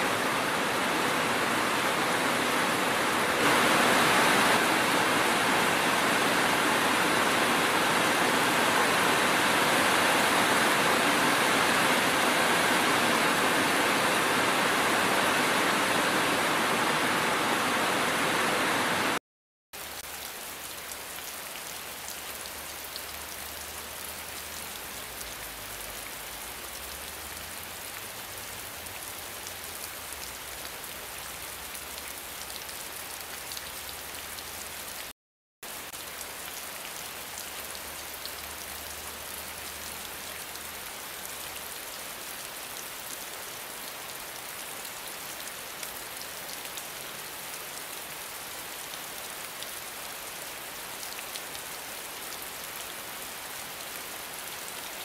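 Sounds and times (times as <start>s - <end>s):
steady rain: 0.0s - 19.2s, 19.8s - 55.0s.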